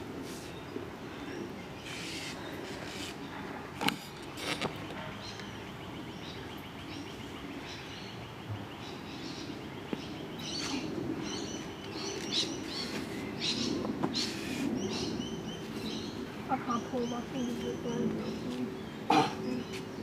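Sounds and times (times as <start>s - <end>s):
low background noise: 0.0s - 20.0s
birds chirping and calling: 0.3s - 20.0s.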